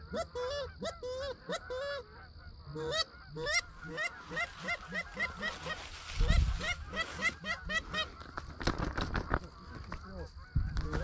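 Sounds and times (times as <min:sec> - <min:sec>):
geese honking: 0:00.0 - 0:08.6, 0:09.3 - 0:11.0.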